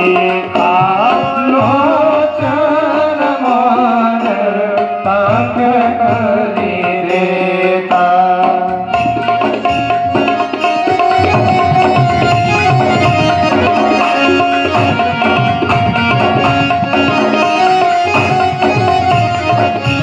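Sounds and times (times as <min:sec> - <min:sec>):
hand drums playing: 0:00.0 - 0:20.0
held melody line: 0:00.0 - 0:20.0.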